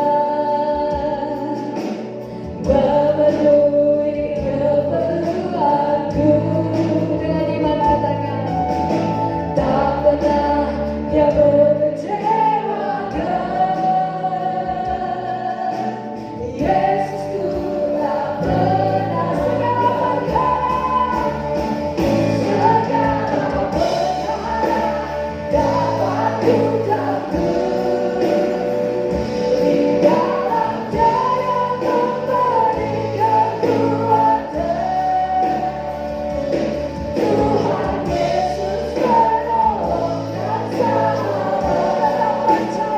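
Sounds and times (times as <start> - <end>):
choir singing gospel: 0.0 - 42.9
musical accompaniment: 0.0 - 42.9.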